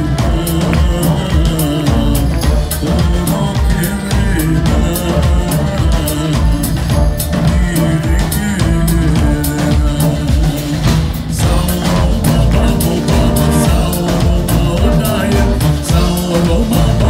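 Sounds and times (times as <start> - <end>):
brass horns playing: 0.0 - 17.0
man singing into a microphone: 0.0 - 17.0
snare and drum kit beat: 0.0 - 17.0.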